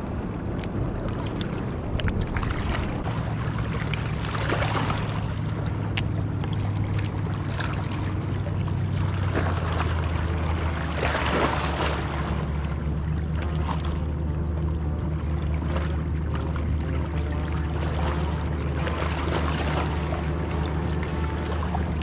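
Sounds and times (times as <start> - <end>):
boat engine droning: 0.0 - 22.0
water noise: 0.0 - 22.0
wind: 0.0 - 22.0.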